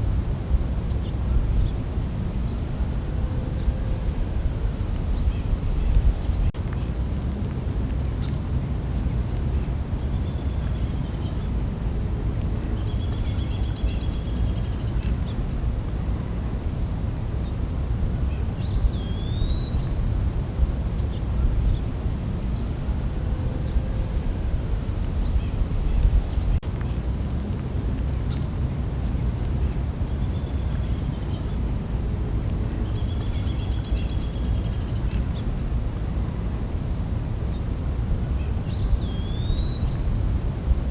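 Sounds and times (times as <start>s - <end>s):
crickets chirping: 0.0s - 40.9s
low rumbling background noise: 0.0s - 40.9s.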